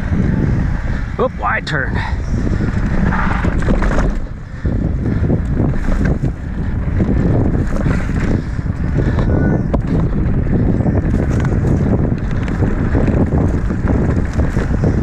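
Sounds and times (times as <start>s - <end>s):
bike rattling: 0.0s - 15.0s
tyres rumbling on dirt: 0.0s - 15.0s
wind buffeting microphone: 0.0s - 15.0s.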